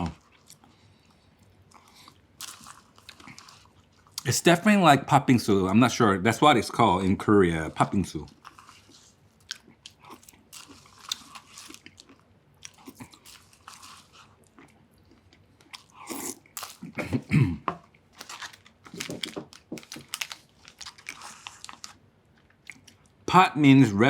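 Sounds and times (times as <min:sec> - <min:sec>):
chewing and crunching: 0:00.0 - 0:04.4, 0:06.6 - 0:23.2.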